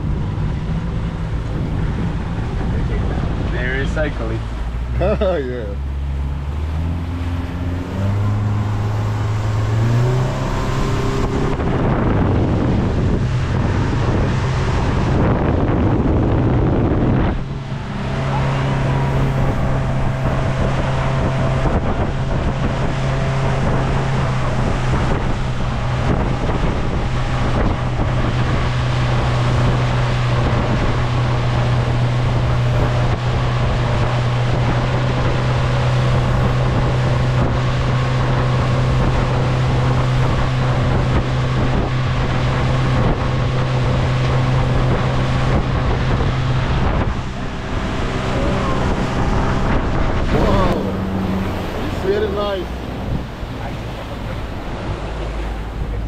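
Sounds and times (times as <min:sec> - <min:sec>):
motorboat engine running: 0:00.0 - 0:56.0
wind buffeting microphone: 0:00.0 - 0:56.0.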